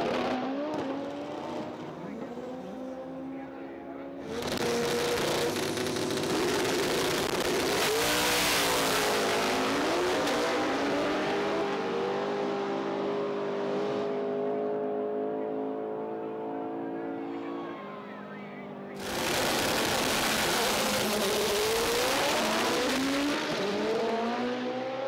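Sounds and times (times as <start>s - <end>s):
drag cars accelerating at full throttle: 0.0s - 25.0s.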